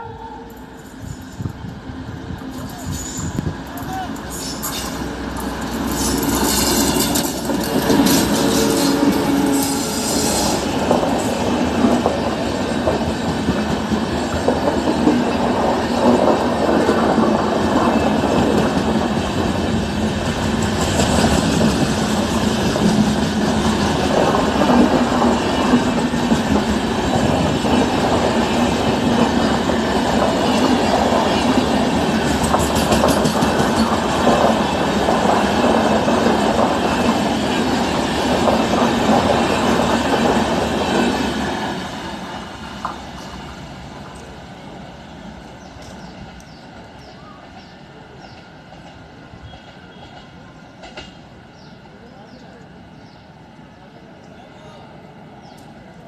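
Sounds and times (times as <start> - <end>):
train wheels clattering on rails: 0.5 - 51.8.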